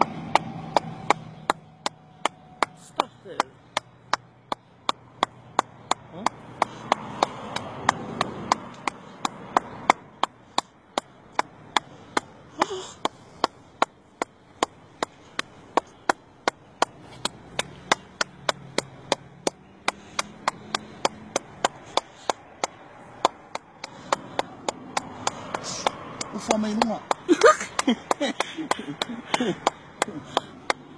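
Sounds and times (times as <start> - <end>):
rhythmic hand claps: 0.0 - 30.9.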